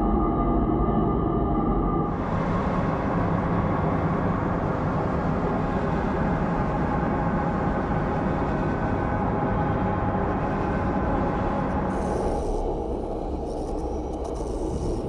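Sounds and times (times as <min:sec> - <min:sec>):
dark ambient drone: 0:00.0 - 0:15.0.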